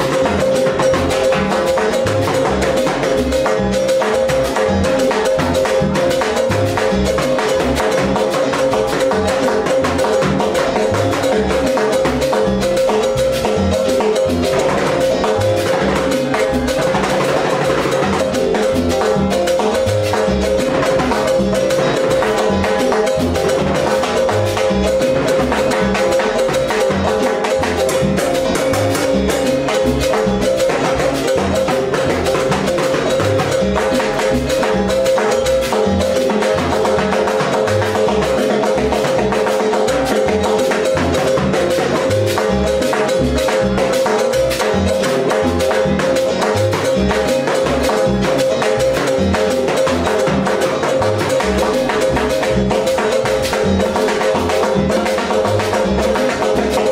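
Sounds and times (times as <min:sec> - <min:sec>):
fast timbales stick strokes: 0:00.0 - 0:56.9
steady held tone: 0:00.0 - 0:56.9.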